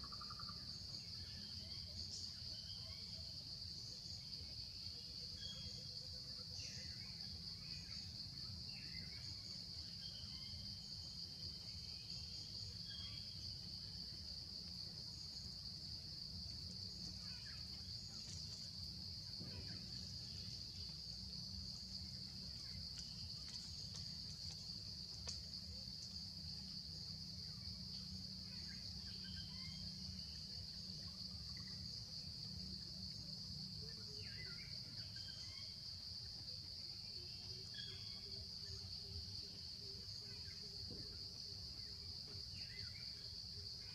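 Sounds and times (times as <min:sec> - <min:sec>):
insect chorus drone: 0:00.0 - 0:43.9.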